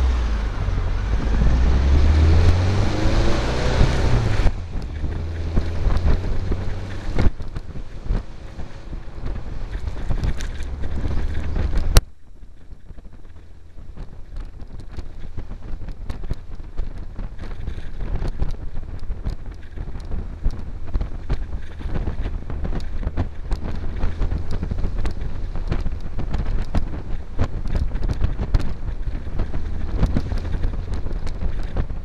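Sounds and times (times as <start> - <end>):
engine and road noise: 0.0 - 32.0
wind buffeting microphone: 0.0 - 32.0.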